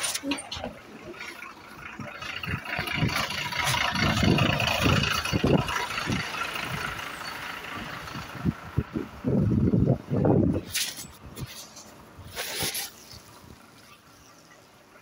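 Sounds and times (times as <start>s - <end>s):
bus engine pulling away: 0.0s - 15.0s.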